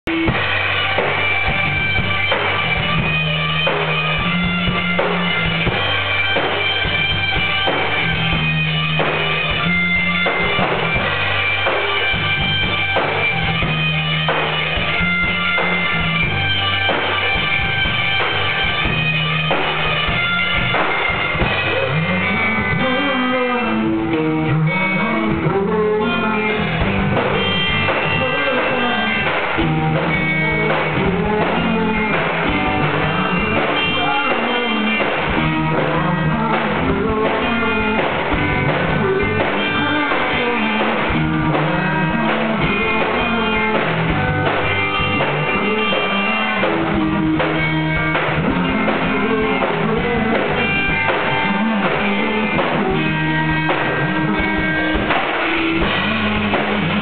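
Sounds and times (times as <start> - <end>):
rock band playing live: 0.0 - 57.0
sliding melody: 0.1 - 57.0.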